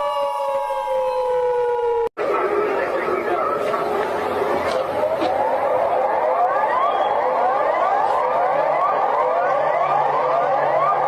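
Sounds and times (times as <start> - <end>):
siren whooping: 0.0 - 11.0.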